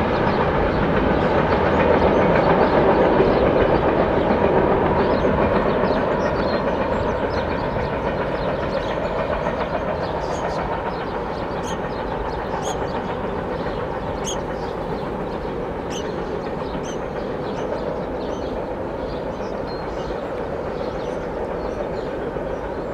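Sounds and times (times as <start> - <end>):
freight train rumbling on rails: 0.0 - 22.9.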